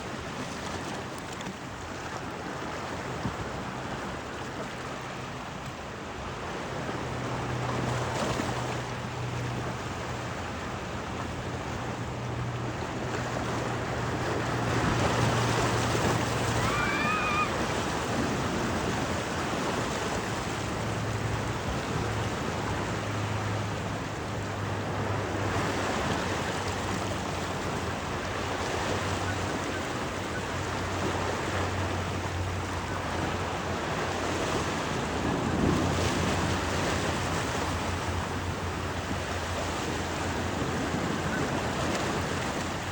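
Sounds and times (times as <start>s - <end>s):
low boat engine hum: 0.0s - 42.9s
waves washing: 0.0s - 42.9s
wind: 0.0s - 42.9s.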